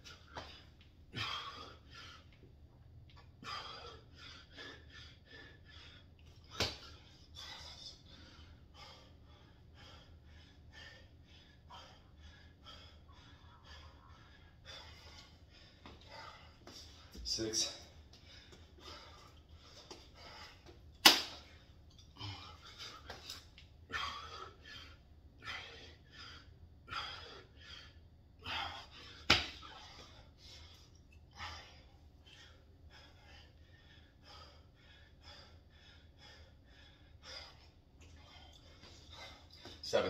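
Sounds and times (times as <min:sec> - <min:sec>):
man breathing hard: 0:00.0 - 0:40.0.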